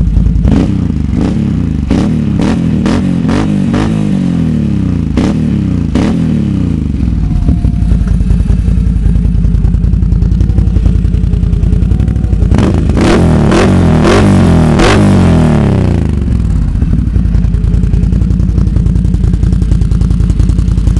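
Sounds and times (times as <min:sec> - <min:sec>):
atv engine idling and revving: 0:00.0 - 0:20.9.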